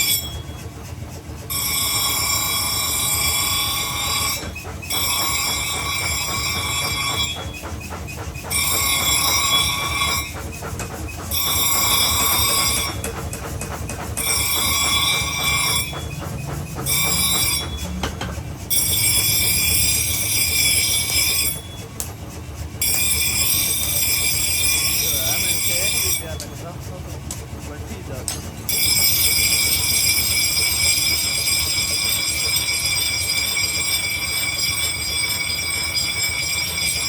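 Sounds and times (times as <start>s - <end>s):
metal grinding squeal: 0.0s - 13.2s, 14.1s - 22.0s, 27.6s - 37.0s.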